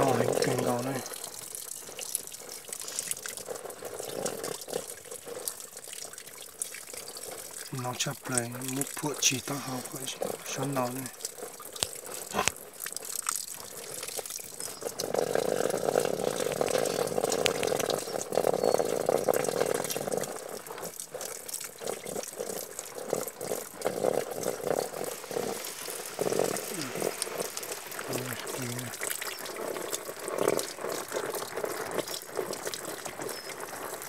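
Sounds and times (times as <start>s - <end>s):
water gushing: 0.0s - 34.0s.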